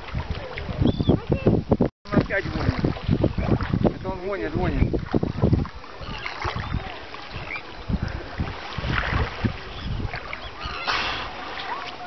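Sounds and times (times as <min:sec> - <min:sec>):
choppy sea water: 0:00.0 - 0:12.0
wind buffeting microphone: 0:00.0 - 0:12.0.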